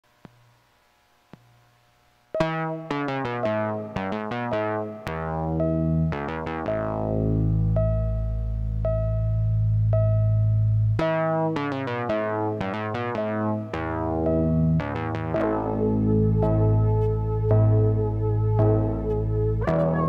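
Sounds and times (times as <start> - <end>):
keyboard tune over bass: 2.4 - 20.0.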